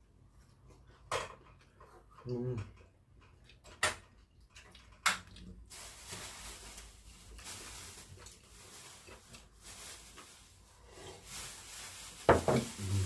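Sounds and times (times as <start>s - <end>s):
soft eating noises: 0.0s - 11.5s, 12.6s - 13.0s.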